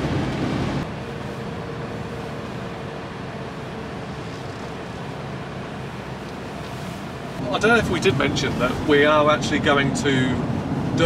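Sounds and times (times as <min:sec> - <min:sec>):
road and engine noise: 0:00.0 - 0:11.0.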